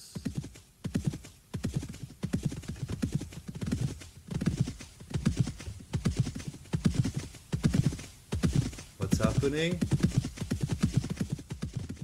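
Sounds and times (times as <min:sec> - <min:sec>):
horse hoofbeats galloping: 0:00.1 - 0:12.0.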